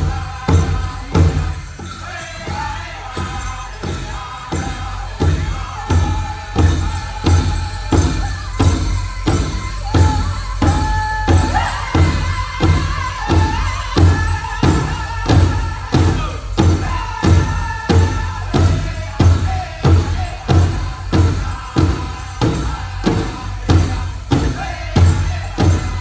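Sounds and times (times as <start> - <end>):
big drum beating steadily: 0.0 - 26.0
high held singing: 0.0 - 26.0.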